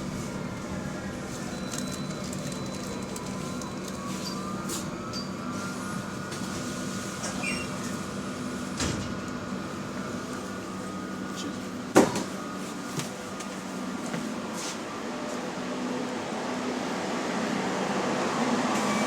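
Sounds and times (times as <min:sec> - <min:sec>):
bus engine hum: 0:00.0 - 0:19.0.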